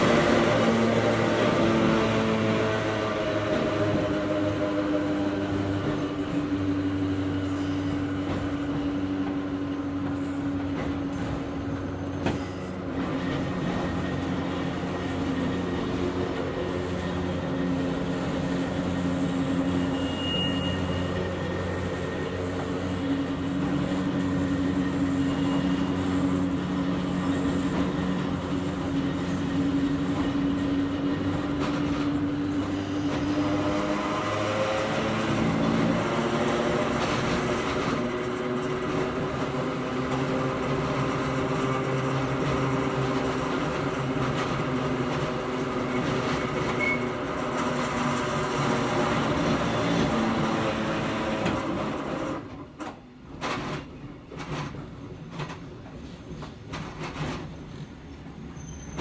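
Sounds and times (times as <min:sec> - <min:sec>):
electric train motor hum: 0:00.0 - 0:52.7
wheels rumbling on rail: 0:00.0 - 0:59.0.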